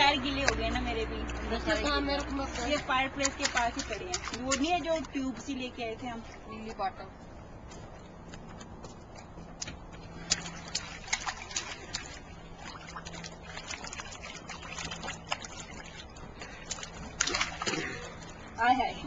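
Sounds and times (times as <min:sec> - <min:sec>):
water splashing in paddling pool: 0:00.0 - 0:06.5, 0:09.6 - 0:18.9.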